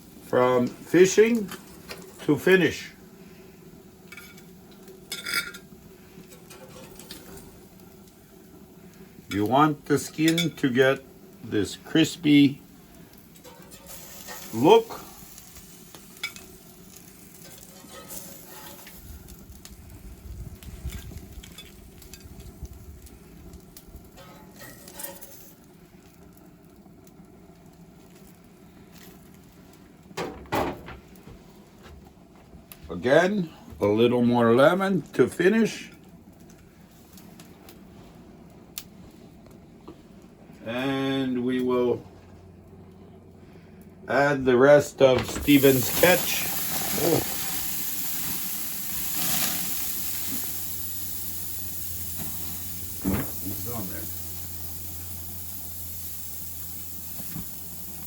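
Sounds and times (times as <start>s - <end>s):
fish sizzling on a grill: 0.0s - 30.2s, 33.0s - 39.6s, 40.5s - 42.0s, 45.3s - 58.0s
low steady hum: 0.0s - 58.0s.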